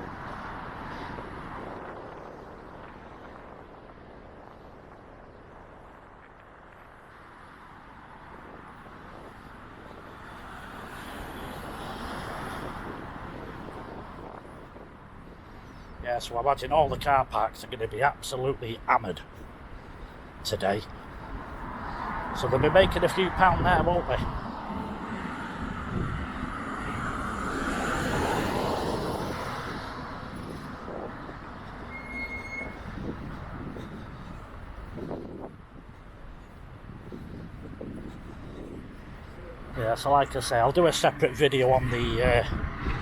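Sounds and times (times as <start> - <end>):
road traffic passing: 0.0 - 43.0
wind buffeting microphone: 0.0 - 43.0.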